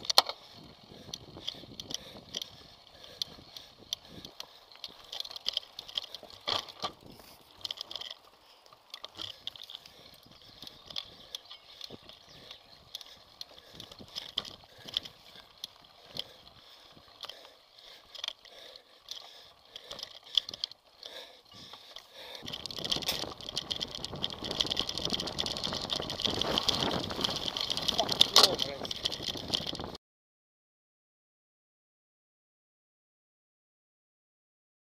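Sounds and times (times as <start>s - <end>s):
mountain bike rattling on dirt trail: 0.0s - 30.0s.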